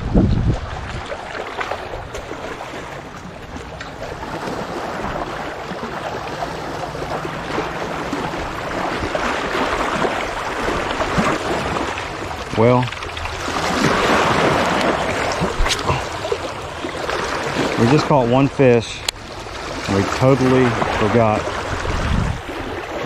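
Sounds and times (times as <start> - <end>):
small waves splashing on rocks: 0.5 - 23.0.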